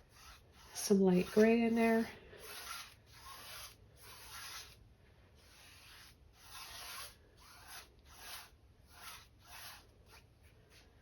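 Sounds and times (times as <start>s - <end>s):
paintbrush strokes on canvas: 0.0s - 4.8s, 5.4s - 11.0s.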